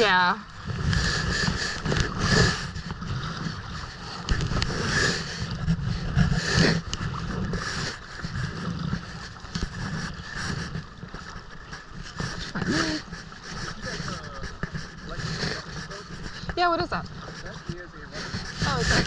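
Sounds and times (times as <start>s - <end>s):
water splashing around kayak: 0.0s - 19.0s
wind rumbling on microphone: 0.0s - 19.0s.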